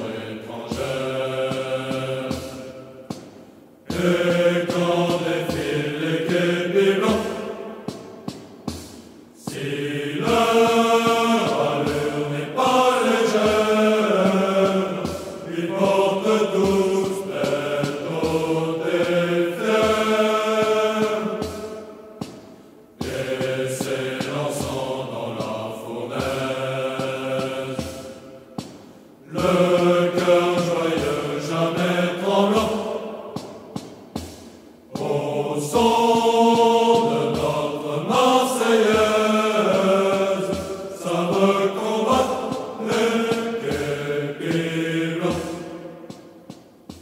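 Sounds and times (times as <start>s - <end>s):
choir chanting: 0.0s - 47.0s
regular beat: 0.0s - 47.0s.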